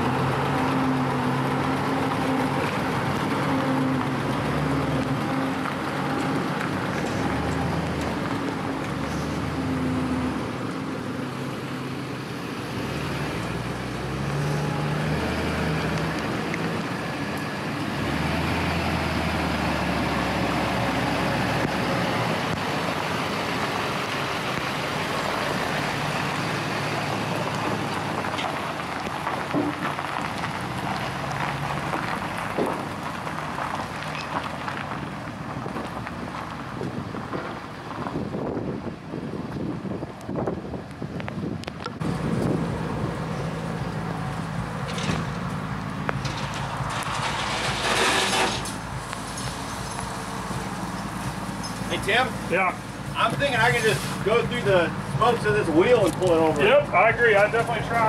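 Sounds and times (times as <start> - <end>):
pickup truck engine: 0.0 - 58.0.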